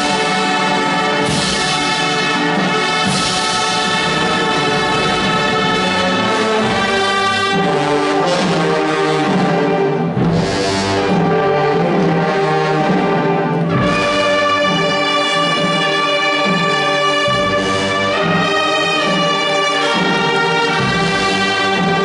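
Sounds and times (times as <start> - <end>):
wind band playing march: 0.0 - 22.0.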